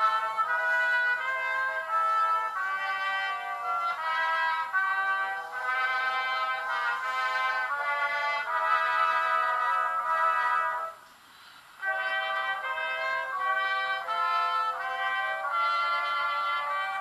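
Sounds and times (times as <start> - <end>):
brass choir playing chords: 0.0 - 11.0, 11.8 - 17.0.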